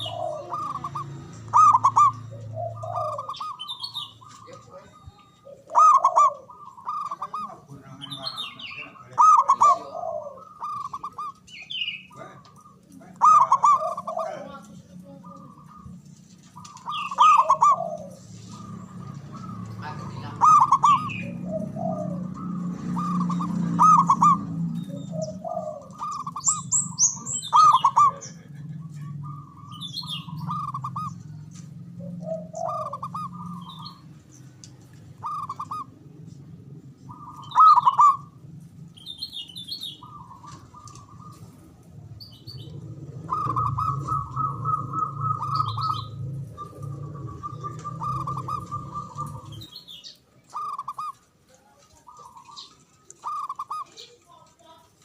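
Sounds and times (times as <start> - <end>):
dove cooing in trills: 0.0 - 54.3
small birds chirping: 0.0 - 55.0.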